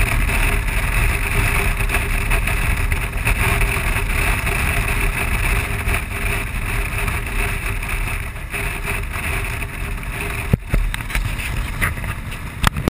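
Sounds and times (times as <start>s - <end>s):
motorcycle engine running: 0.0s - 12.9s
wind rush: 0.0s - 12.9s.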